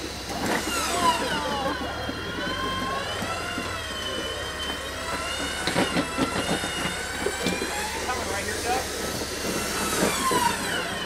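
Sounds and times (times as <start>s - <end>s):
electric winch motor whining: 0.0s - 11.0s.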